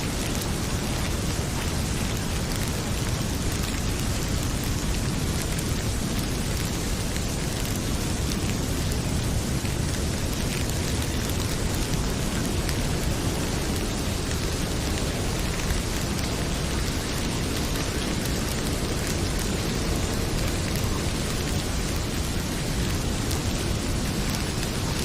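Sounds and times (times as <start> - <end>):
heavy rain pouring: 0.0 - 25.0
wood fire crackling: 0.0 - 25.0.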